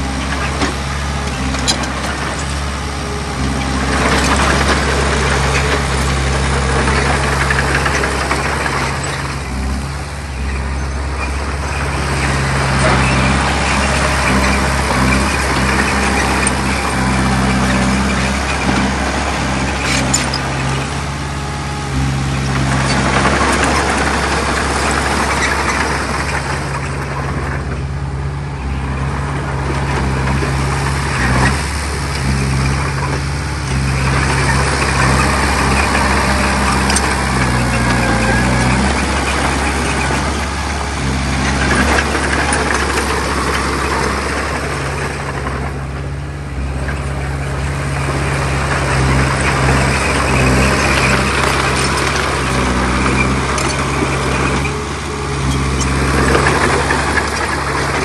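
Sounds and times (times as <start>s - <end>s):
bulldozer diesel engine running: 0.0s - 58.0s
noisy clatter: 0.0s - 58.0s.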